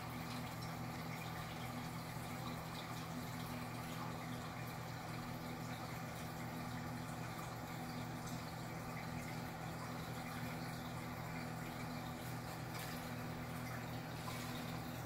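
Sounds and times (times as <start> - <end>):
aquarium pumps humming: 0.0 - 15.0
water trickling and bubbling: 0.0 - 15.0.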